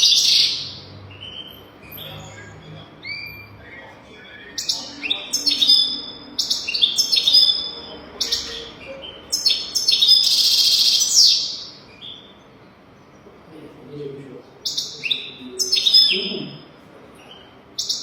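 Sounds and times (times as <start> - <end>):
harsh buzzy bird trill: 0.0 - 13.0, 14.6 - 18.0
finch twittering: 0.0 - 13.3, 14.6 - 18.0.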